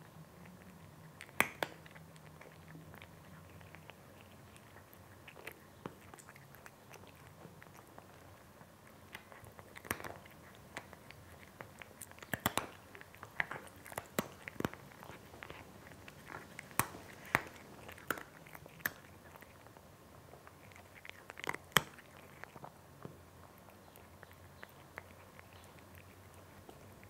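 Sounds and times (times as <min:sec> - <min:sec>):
cat chewing dry kibble: 0:00.0 - 0:27.0.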